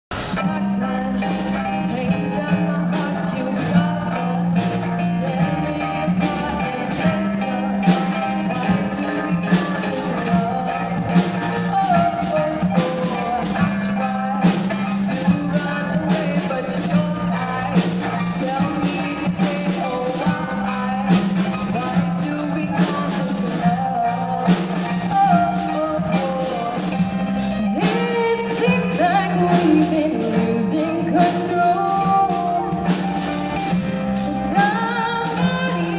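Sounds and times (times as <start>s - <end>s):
drums beating: 0.0s - 35.9s
guitar: 0.0s - 35.9s
person singing: 0.1s - 35.9s.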